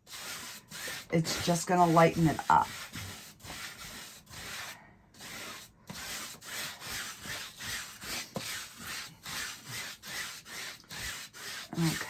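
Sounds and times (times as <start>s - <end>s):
paintbrush scrubbing on canvas: 0.0s - 12.0s.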